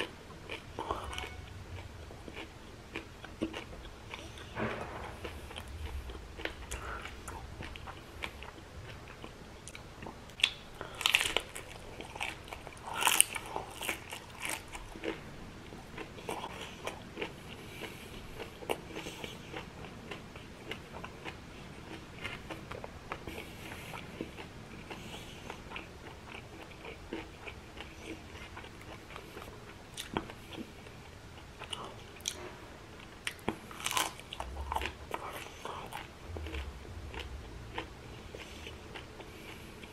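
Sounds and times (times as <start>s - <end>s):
crunching fried prawns: 0.0s - 32.5s, 33.2s - 39.9s.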